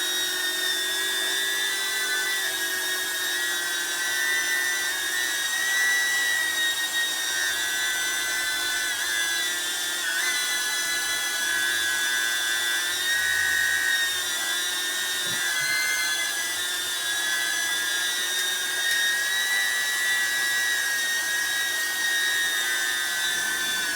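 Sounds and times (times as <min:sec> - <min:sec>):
drone motors whining: 0:01.9 - 0:23.9.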